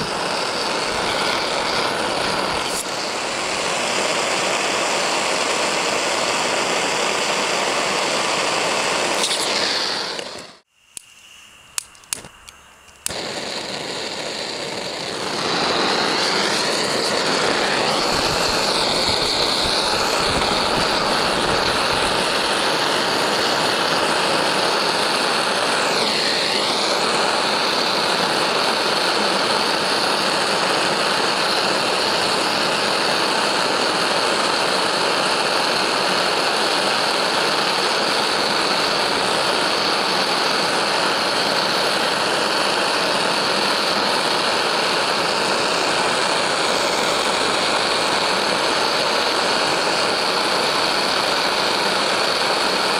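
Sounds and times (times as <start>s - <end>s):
heating tool rushing: 0.0s - 52.9s.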